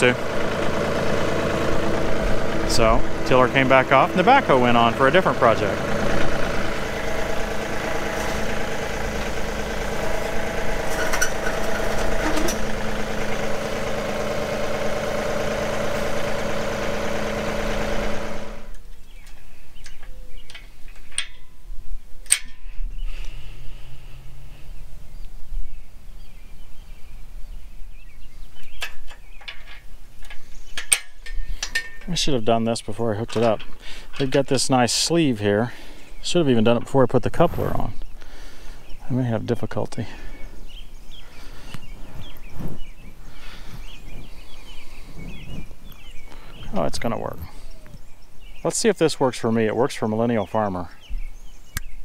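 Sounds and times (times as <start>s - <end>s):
tractor diesel engine running: 0.0s - 19.2s, 28.0s - 52.0s.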